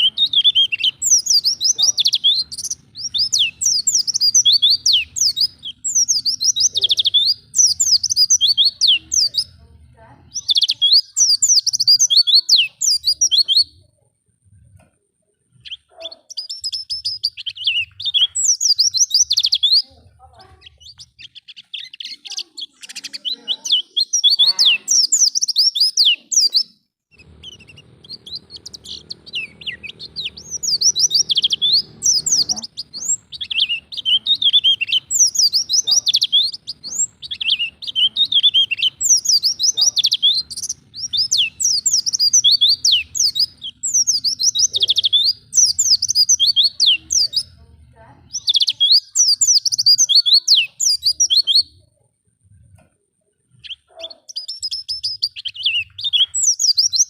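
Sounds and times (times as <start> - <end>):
white-eye bird twittering: 0.0 - 9.6, 10.3 - 13.8, 15.5 - 19.9, 20.6 - 47.6, 48.3 - 51.7, 53.6 - 57.0.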